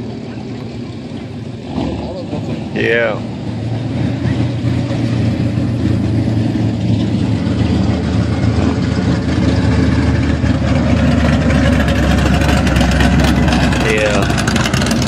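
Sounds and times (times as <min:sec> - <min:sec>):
muscle car engine passing: 0:00.0 - 0:15.0
pickup truck engine running: 0:00.0 - 0:15.0.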